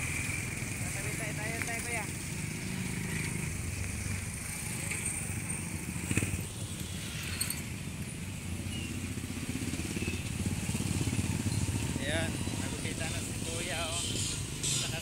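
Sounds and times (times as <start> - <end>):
motorcycle traffic passing: 0.0 - 15.0.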